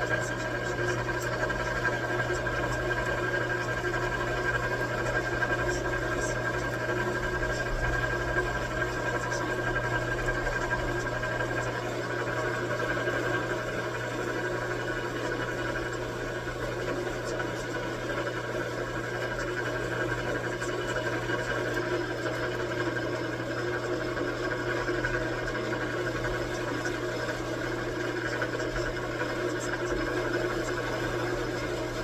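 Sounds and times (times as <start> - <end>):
metal lathe humming: 0.0 - 32.0.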